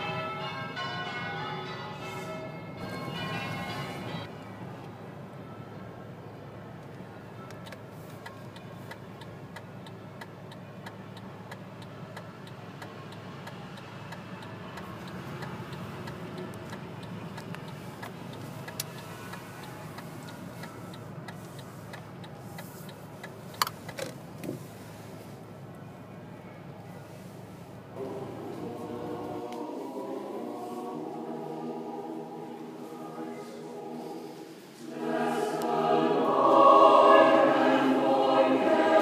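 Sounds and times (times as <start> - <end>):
car driving hum: 2.8 - 35.9.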